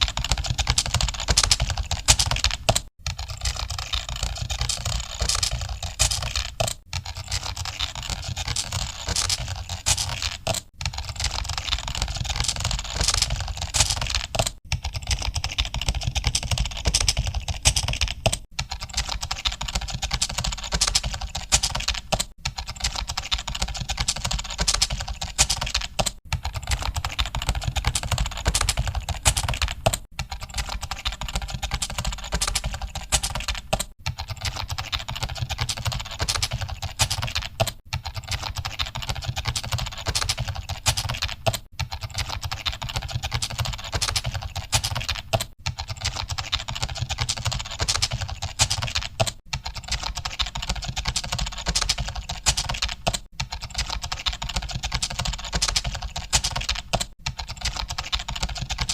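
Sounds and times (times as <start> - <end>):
rapid typing on keyboards: 0.0 - 58.9.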